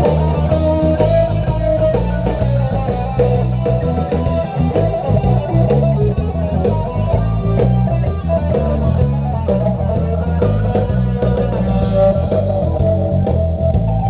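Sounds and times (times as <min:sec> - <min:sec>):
bass notes: 0:00.0 - 0:14.0
electric guitar rock: 0:00.0 - 0:14.0.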